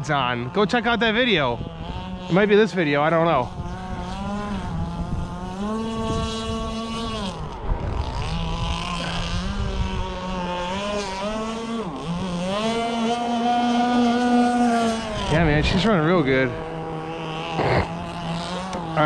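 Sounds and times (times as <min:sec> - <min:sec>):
rc boat engine revving: 0:00.0 - 0:19.0.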